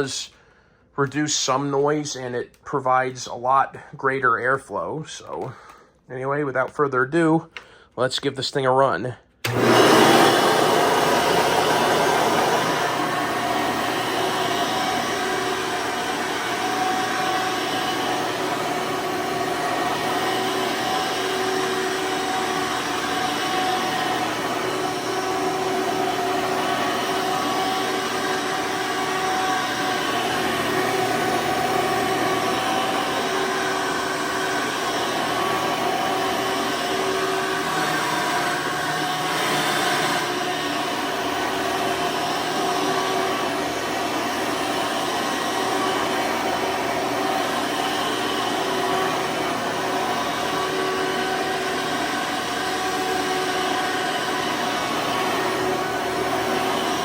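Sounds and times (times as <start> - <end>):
upright vacuum cleaner running: 9.4 - 57.0.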